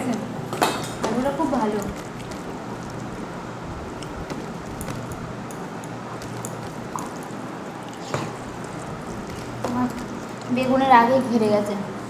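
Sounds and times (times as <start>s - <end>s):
quiet eating clicks and smacks: 0.0s - 10.9s
low hum and hiss: 0.0s - 12.0s.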